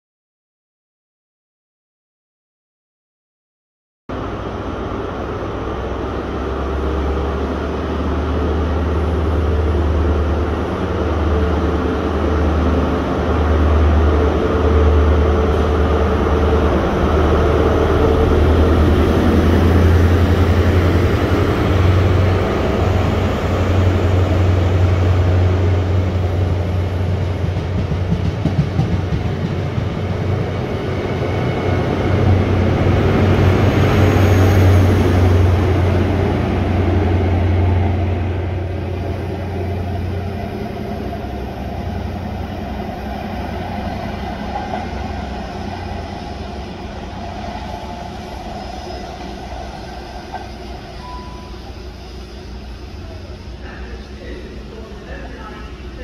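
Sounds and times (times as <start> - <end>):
diesel train engine drone: 4.1 - 56.0
train coaches rolling by: 4.1 - 56.0.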